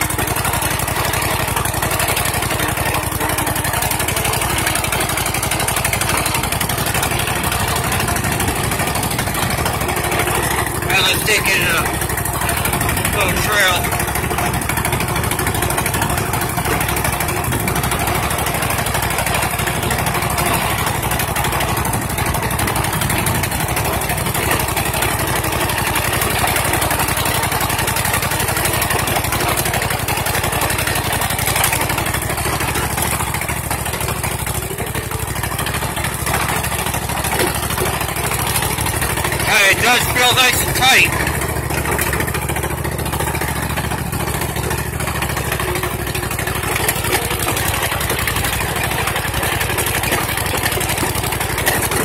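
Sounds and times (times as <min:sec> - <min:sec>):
riding mower engine running: 0:00.0 - 0:52.0.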